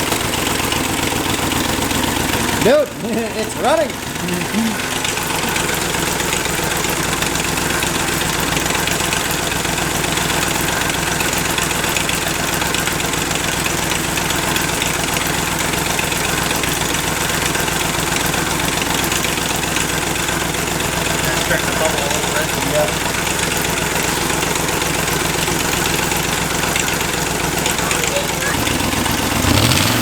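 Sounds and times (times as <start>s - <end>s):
car engine idling with clatter: 0.0s - 30.0s.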